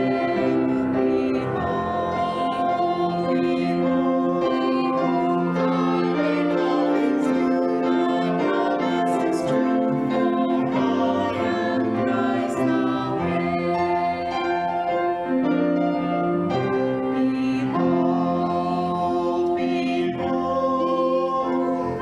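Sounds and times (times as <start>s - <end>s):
hymn singing: 0.0s - 22.0s
piano accompaniment: 0.0s - 22.0s.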